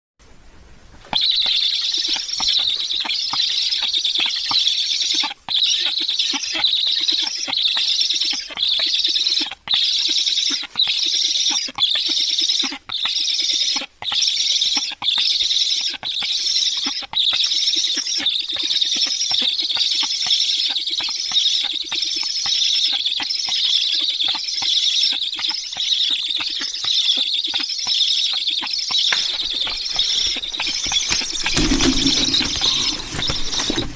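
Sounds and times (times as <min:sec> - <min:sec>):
high-pitched bird calling: 0:01.1 - 0:33.9.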